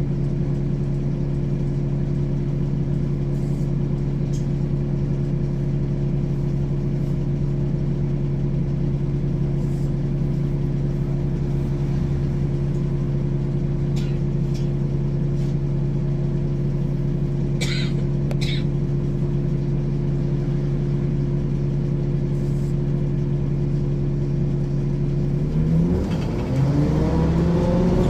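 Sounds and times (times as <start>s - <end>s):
bus diesel engine idling: 0.0s - 25.6s.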